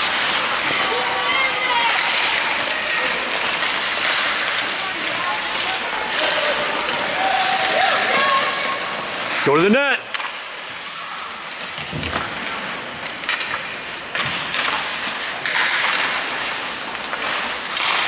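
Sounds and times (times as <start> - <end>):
hockey sticks and puck clacking: 0.0 - 18.0
skate blades scraping ice: 0.0 - 18.0.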